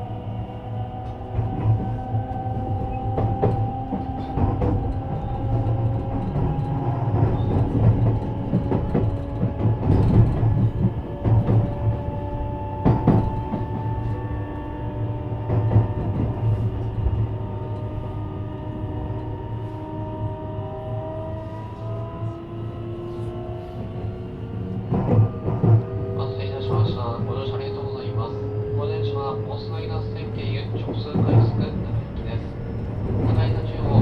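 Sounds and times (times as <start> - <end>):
wheel and rail rumble: 0.0 - 34.0.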